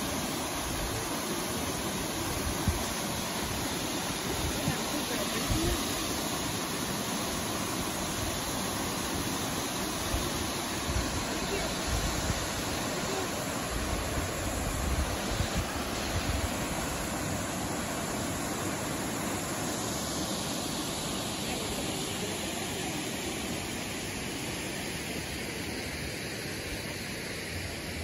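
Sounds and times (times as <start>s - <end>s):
waterfall rushing into gorge: 0.0s - 28.0s.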